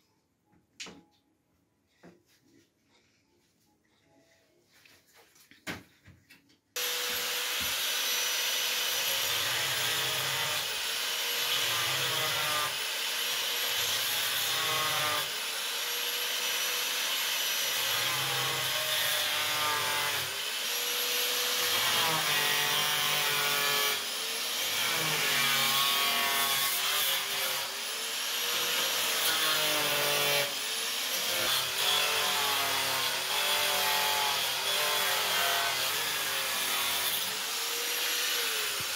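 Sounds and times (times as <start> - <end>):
angle grinder cutting plastic: 6.8 - 38.9.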